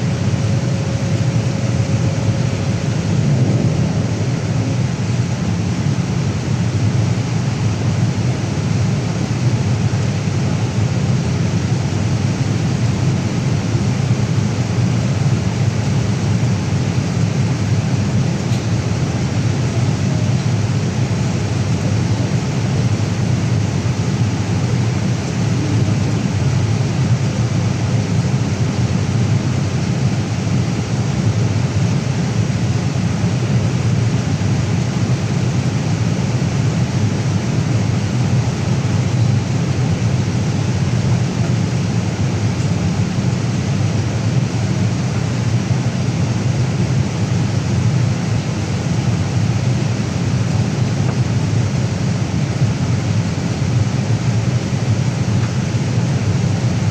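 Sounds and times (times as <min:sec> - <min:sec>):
airplane cabin rumble: 0:00.0 - 0:56.9.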